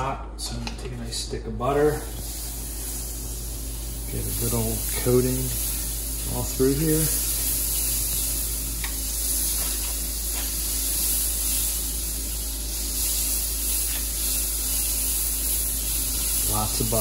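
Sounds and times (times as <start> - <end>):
butter sizzling in skillet: 2.0 - 17.0.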